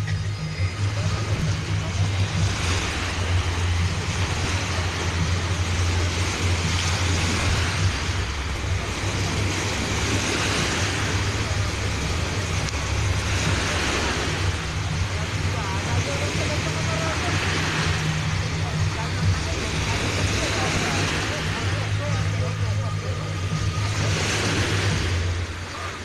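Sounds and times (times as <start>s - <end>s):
surf washing ashore: 0.0s - 26.0s
wind rumbling on microphone: 0.0s - 26.0s.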